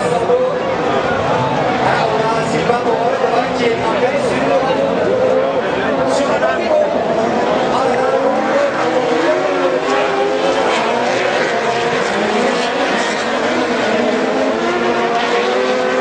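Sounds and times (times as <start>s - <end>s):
racing engines revving: 0.0s - 16.0s.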